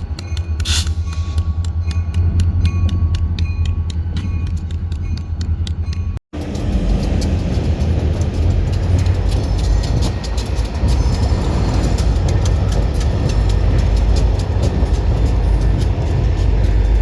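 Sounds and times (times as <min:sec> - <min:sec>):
train rumbling past: 0:00.0 - 0:17.0
wheels clicking on rails: 0:00.0 - 0:17.0.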